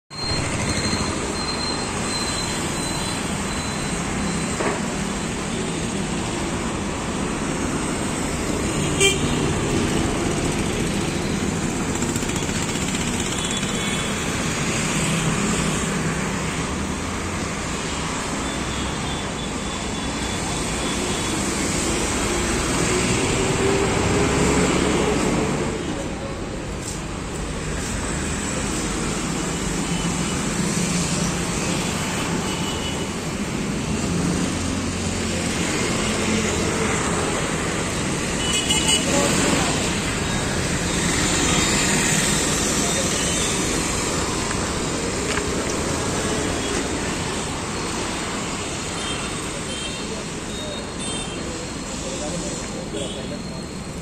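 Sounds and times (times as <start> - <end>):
road traffic noise: 0.1 - 54.0.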